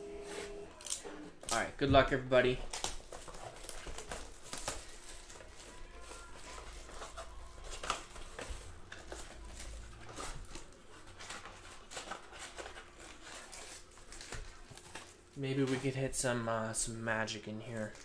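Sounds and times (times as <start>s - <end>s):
plastic wrap crinkling: 0.3s - 18.0s.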